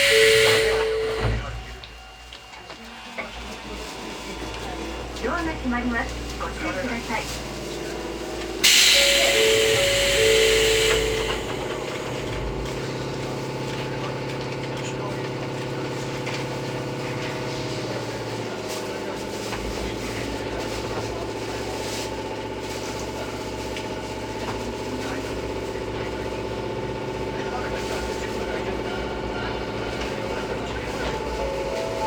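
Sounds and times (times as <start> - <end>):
electric train electrical hum: 0.0 - 32.0.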